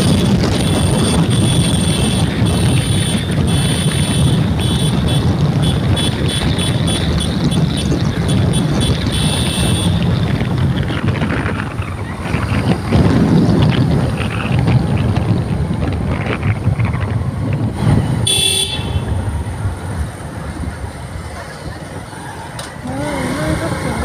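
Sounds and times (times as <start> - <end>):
road rumble: 0.0 - 24.0
wind on microphone: 0.0 - 24.0.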